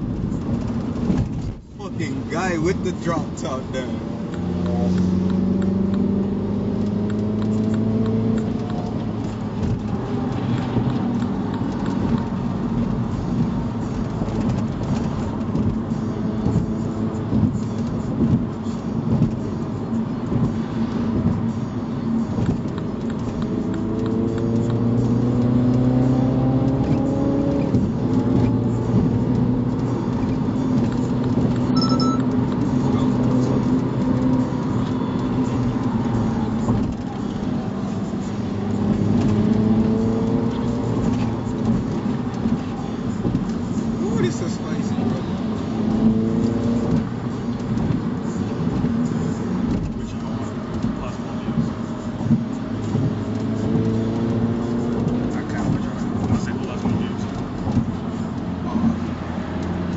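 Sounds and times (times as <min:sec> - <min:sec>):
car engine accelerating: 0:00.0 - 0:59.9
road noise inside car: 0:00.0 - 0:59.9.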